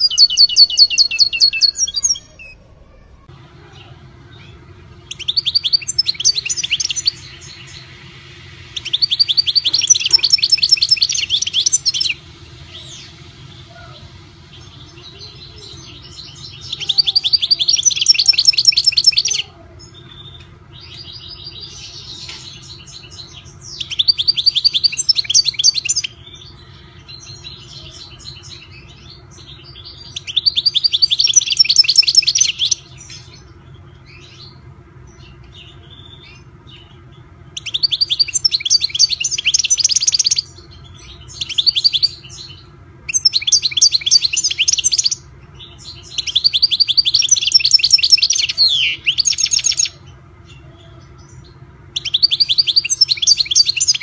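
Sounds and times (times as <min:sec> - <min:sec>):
bird twittering song: 0:00.0 - 0:54.0
faint steady hum: 0:00.0 - 0:54.0.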